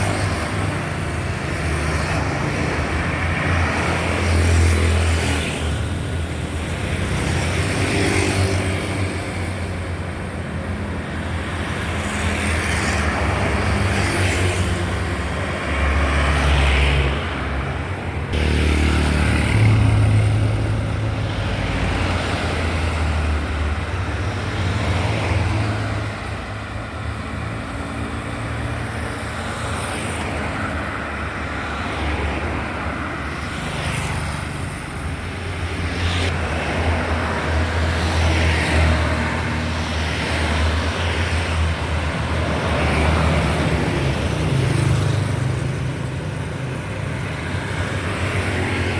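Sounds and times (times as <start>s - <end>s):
tyre and road noise: 0.0s - 48.9s
vehicles passing: 0.0s - 48.9s.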